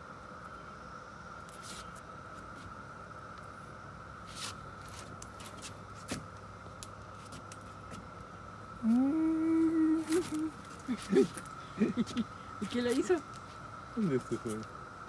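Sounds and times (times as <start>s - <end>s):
cicada chorus drone: 0.0s - 15.0s.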